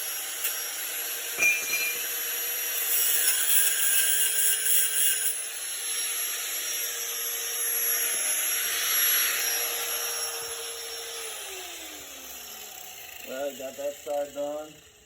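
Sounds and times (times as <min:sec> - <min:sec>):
power tool cutting steel tubing: 0:00.0 - 0:15.0.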